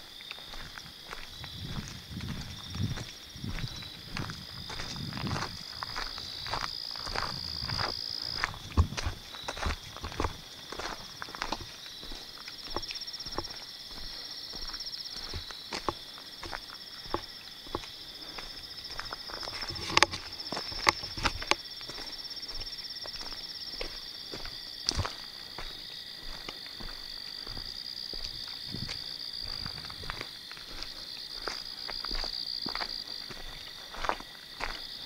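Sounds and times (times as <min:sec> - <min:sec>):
footsteps crunching through dry leaves: 0:00.0 - 0:35.0
night insects trilling: 0:00.0 - 0:35.0.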